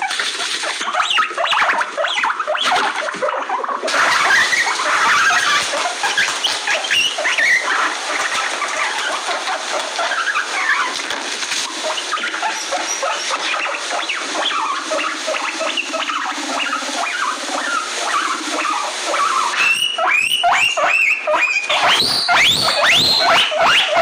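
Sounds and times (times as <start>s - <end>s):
guinea pigs squeaking and chirping: 0.0s - 24.0s.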